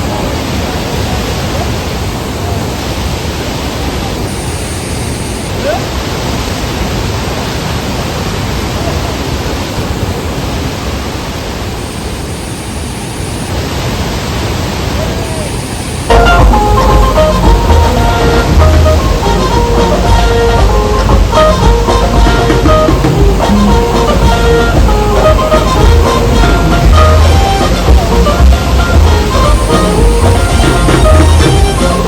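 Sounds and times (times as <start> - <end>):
white water rushing over rapids: 0.0 - 32.0.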